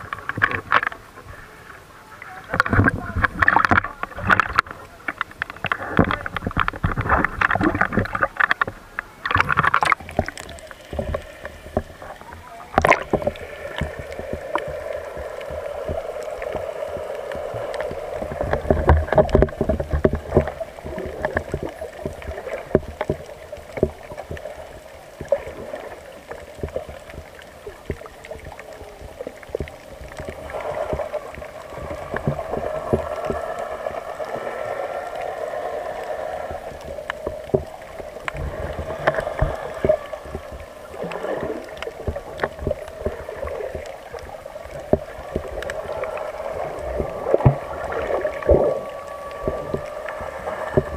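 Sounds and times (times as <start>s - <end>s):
underwater drone of moving water: 0.0s - 50.9s.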